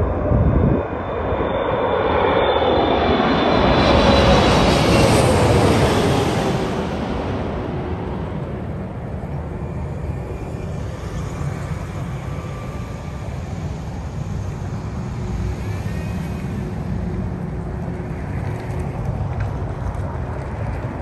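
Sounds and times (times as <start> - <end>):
jet engine low rumble: 0.0 - 21.0.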